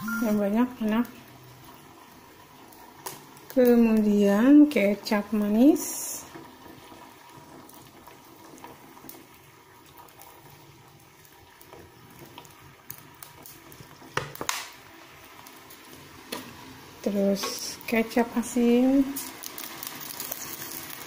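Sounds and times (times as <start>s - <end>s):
sauce simmering in a pan: 0.2s - 21.0s.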